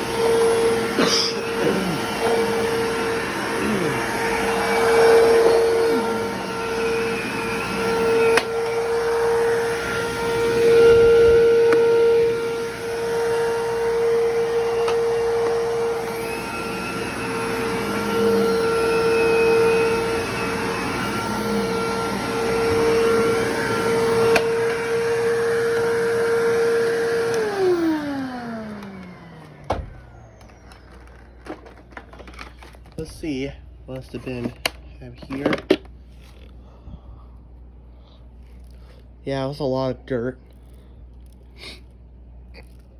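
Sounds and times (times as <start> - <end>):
vacuum cleaner motor: 0.0 - 36.5.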